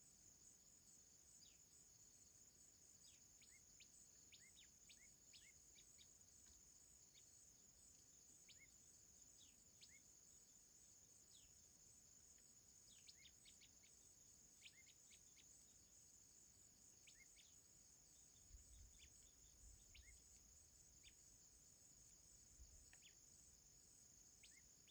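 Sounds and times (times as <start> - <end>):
crickets trilling: 0.4 - 24.9
small birds chirping: 0.9 - 24.9.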